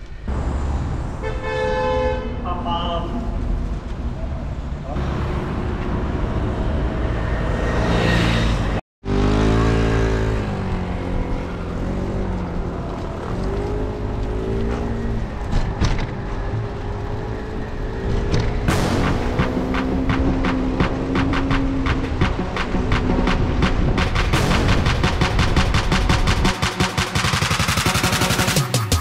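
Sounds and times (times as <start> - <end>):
vehicle engines revving: 3.3 - 26.5.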